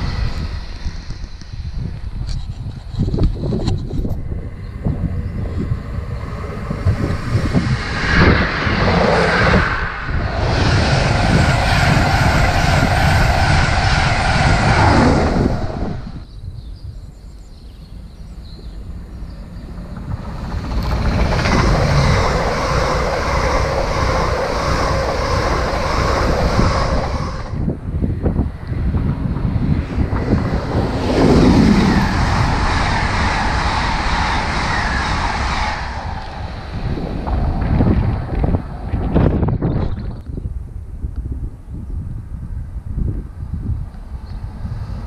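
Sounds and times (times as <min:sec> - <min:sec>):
diesel train passing: 0:00.0 - 0:02.3, 0:03.1 - 0:16.3, 0:17.9 - 0:39.7, 0:42.5 - 0:45.0
high-speed train rushing past: 0:00.0 - 0:16.3, 0:18.0 - 0:41.3, 0:42.1 - 0:45.0.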